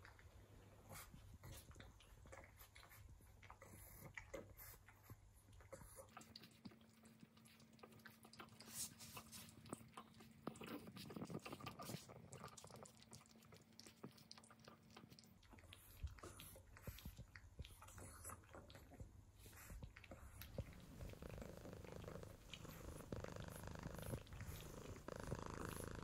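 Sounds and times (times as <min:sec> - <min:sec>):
animals licking and nibbling: 0:00.0 - 0:26.0
faint steady hum: 0:00.0 - 0:26.0.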